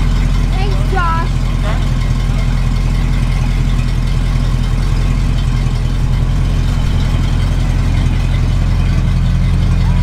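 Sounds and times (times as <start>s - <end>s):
pickup truck engine idling: 0.0s - 10.0s.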